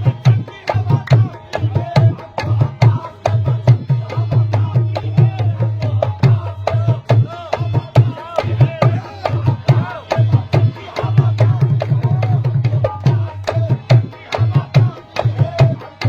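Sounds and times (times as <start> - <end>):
hand drum fast rhythm: 0.0 - 16.0.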